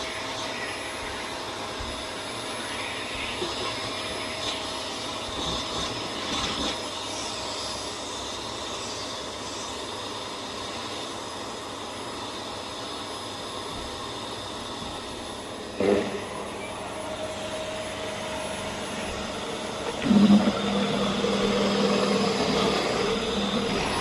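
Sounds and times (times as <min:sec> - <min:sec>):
vacuum cleaner running: 0:00.0 - 0:09.3, 0:10.1 - 0:24.0.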